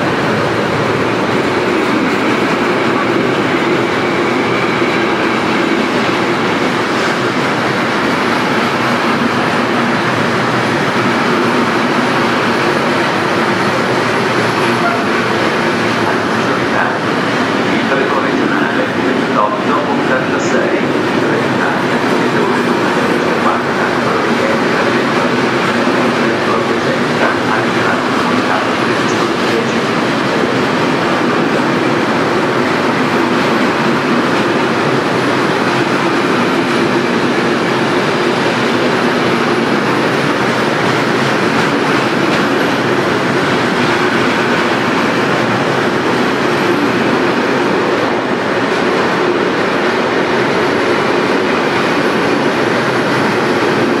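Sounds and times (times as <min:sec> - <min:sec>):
train wheels running over rails: 0:00.0 - 0:54.0.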